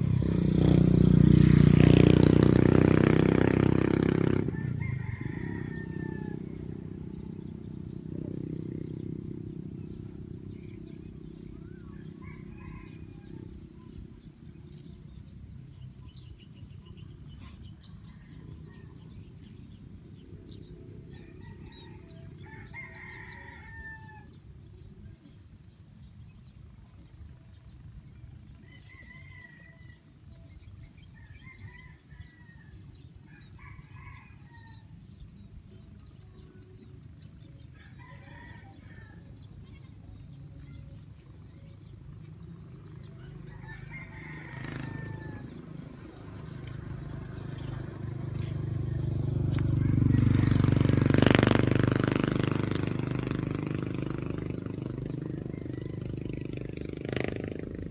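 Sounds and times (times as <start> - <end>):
roosters crowing: 0.0 - 14.8, 17.2 - 24.6, 27.6 - 57.9.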